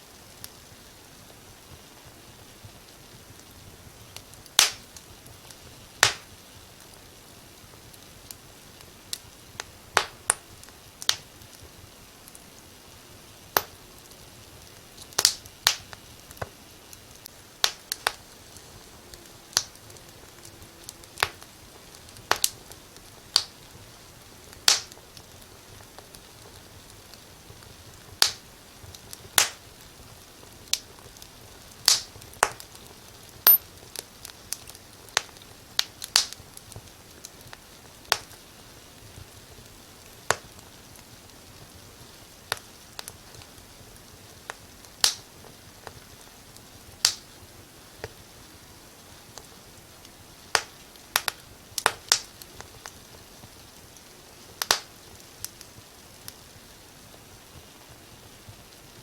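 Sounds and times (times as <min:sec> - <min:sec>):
faint hiss of flames: 0:00.0 - 0:59.0
wood fire crackling and popping: 0:00.0 - 0:59.0.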